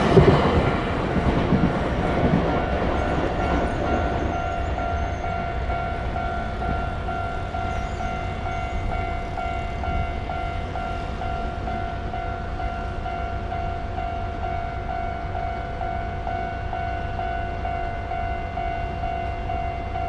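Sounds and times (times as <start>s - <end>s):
train rumble: 0.0s - 20.0s
level crossing warning bell ringing: 2.1s - 20.0s.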